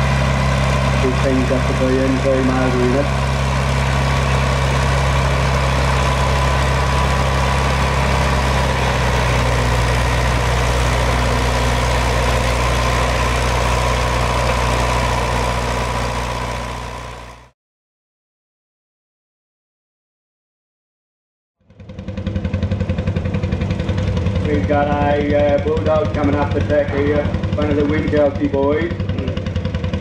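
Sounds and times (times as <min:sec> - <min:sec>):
tractor engine running: 0:00.0 - 0:17.5, 0:21.7 - 0:30.0.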